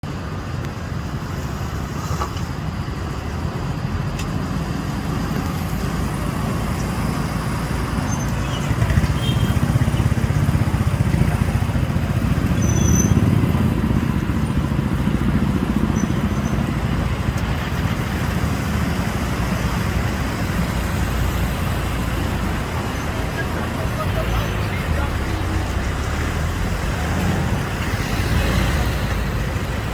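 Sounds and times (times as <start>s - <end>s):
vehicle engines rumbling: 0.0s - 29.9s.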